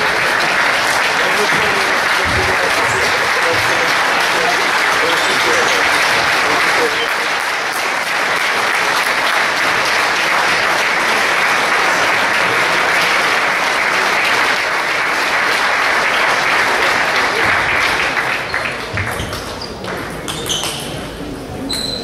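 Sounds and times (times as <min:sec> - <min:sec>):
spectators applauding: 0:00.0 - 0:21.0.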